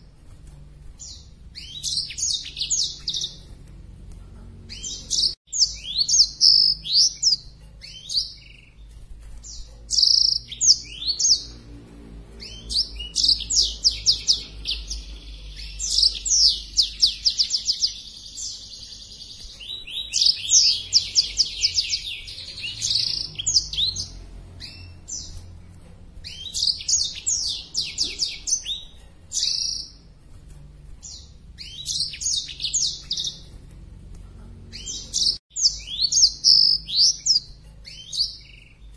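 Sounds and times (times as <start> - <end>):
bird singing high trills: 1.0 - 3.6, 4.6 - 25.6, 26.2 - 30.1, 31.0 - 33.6, 34.6 - 38.9.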